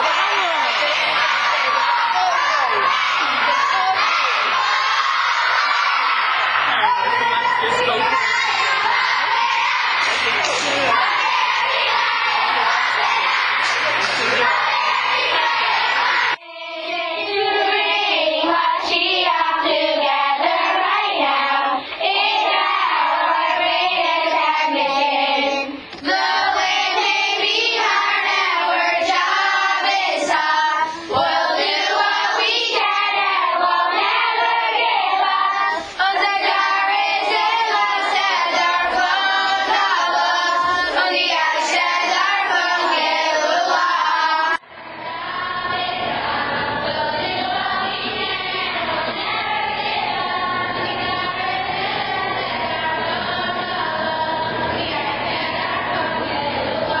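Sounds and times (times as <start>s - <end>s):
girls singing together: 0.0s - 57.0s.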